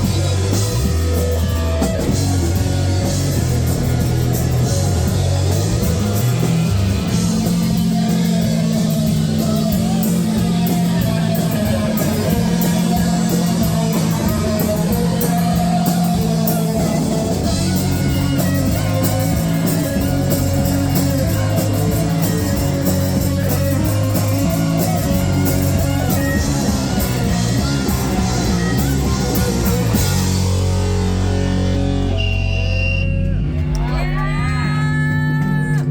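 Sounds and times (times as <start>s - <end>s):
live rock band playing: 0.0s - 35.9s.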